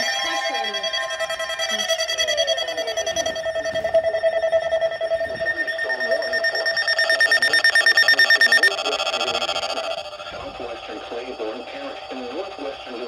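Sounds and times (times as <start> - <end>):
rapidly pulsing electronic alarm tone: 0.0 - 13.0.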